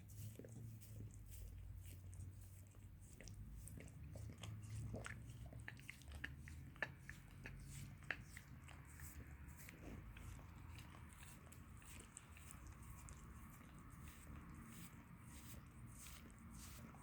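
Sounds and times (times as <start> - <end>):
dog licking: 0.0 - 17.0.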